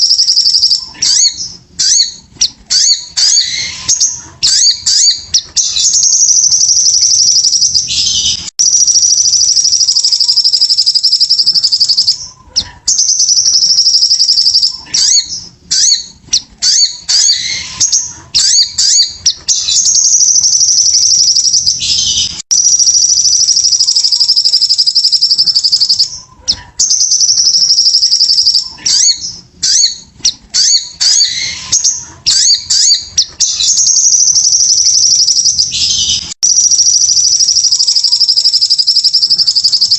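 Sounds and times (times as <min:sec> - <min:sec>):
bird singing high fast trills: 0:00.0 - 0:12.3, 0:12.9 - 0:26.2, 0:26.8 - 0:39.9.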